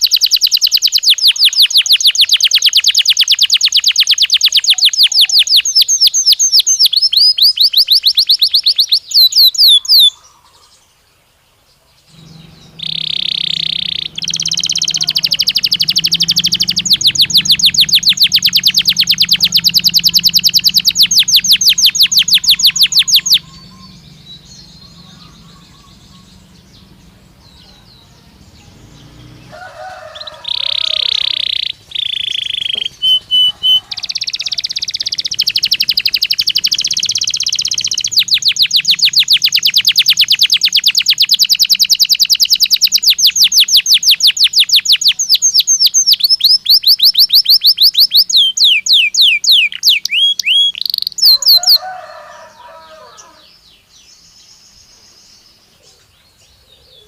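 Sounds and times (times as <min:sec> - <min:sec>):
canary singing: 0:00.0 - 0:10.8, 0:12.1 - 0:57.0.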